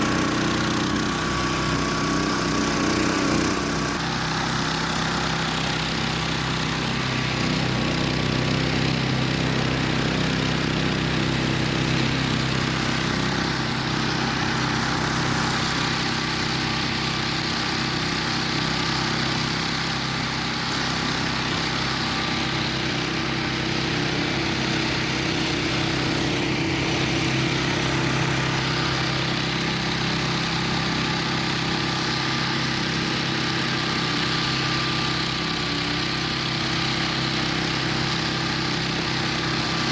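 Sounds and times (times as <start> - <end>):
vehicle engine droning: 0.0 - 36.4.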